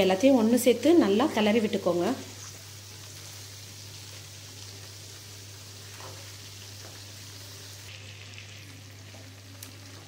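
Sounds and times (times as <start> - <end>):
pickle sizzling in a pan: 0.0 - 10.0.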